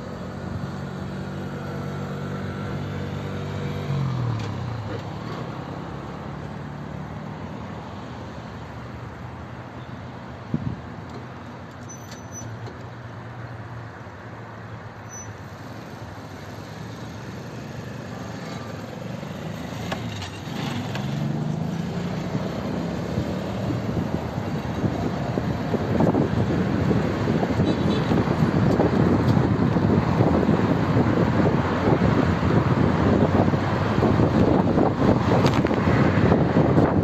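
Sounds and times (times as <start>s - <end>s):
car engines passing: 0.0s - 37.0s.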